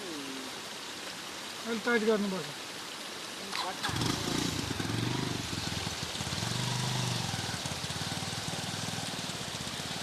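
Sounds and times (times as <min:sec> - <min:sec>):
hiss of rain or rushing water: 0:00.0 - 0:10.0.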